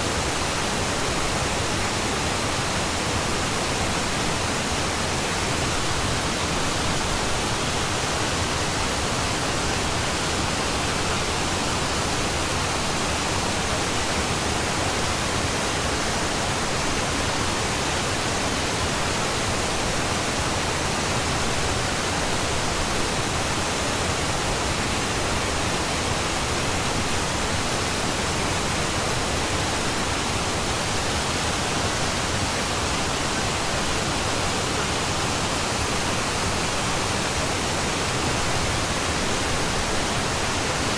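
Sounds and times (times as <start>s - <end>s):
steady broadband noise: 0.0s - 40.9s.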